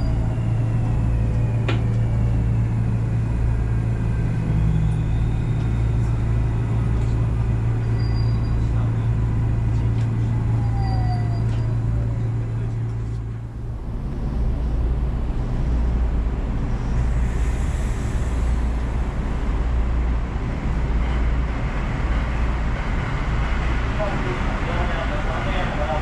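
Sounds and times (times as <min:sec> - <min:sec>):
train wheels and motors rumbling: 0:00.0 - 0:26.0.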